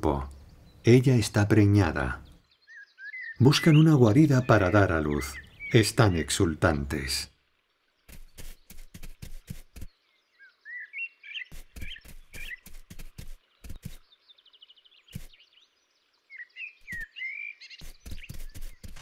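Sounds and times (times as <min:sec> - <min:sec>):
small bird chirping: 0:01.8 - 0:06.6, 0:08.0 - 0:19.0.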